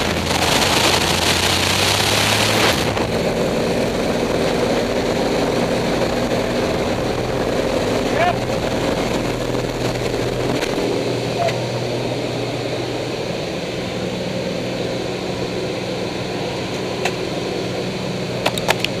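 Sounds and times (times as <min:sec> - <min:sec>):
aircraft engine and propeller droning: 0:00.0 - 0:19.0
wind noise: 0:00.0 - 0:19.0.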